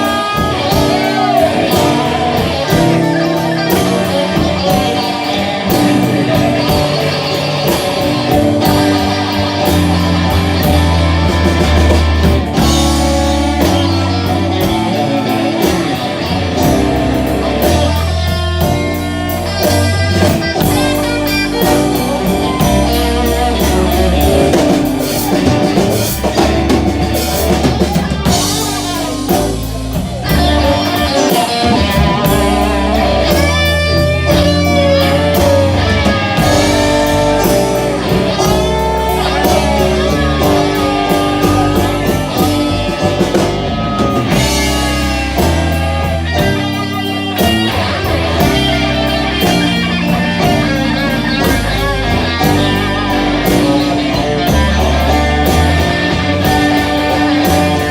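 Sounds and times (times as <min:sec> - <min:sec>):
bass: 0:00.0 - 0:57.9
blues guitar bending notes: 0:00.0 - 0:57.9
drum kit: 0:00.0 - 0:57.9.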